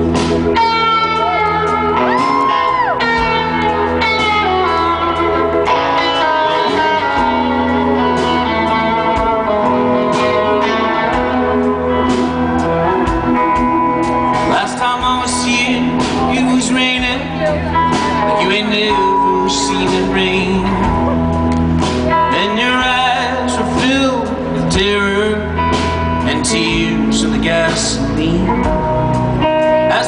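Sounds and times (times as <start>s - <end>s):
electric lead guitar bending notes: 0.0s - 30.0s
rock band playing: 0.0s - 30.0s.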